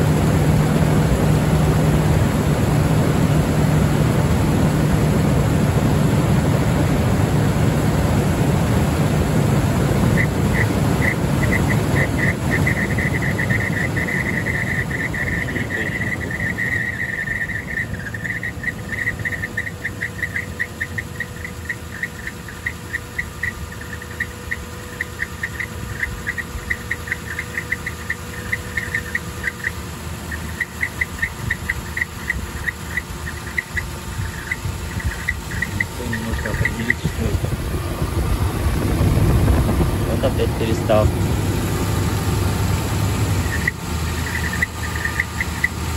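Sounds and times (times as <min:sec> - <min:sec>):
engine idling: 0:00.0 - 0:45.9
fan clutch squeaking: 0:00.0 - 0:45.9.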